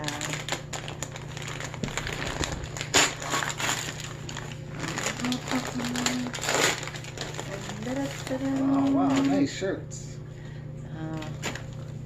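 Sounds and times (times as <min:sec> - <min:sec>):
loud paper crackle: 0:00.0 - 0:09.5, 0:11.2 - 0:12.0
wrapping paper rustling: 0:00.0 - 0:09.6, 0:11.1 - 0:12.0.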